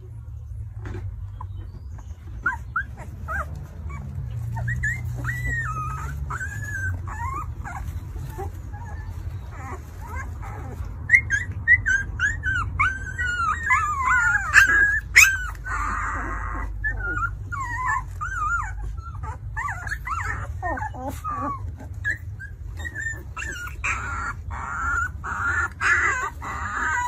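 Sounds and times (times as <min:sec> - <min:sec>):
puppies whimpering and squealing: 0:00.4 - 0:27.0.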